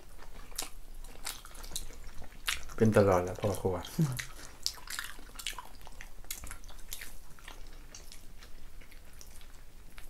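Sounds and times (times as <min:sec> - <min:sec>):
chewing and lip-smacking: 0:00.0 - 0:10.0.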